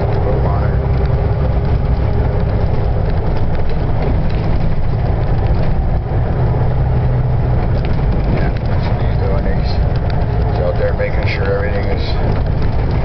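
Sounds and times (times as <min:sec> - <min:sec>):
mechanical rattling: 0:00.0 - 0:13.0
truck diesel engine rumbling: 0:00.0 - 0:13.0.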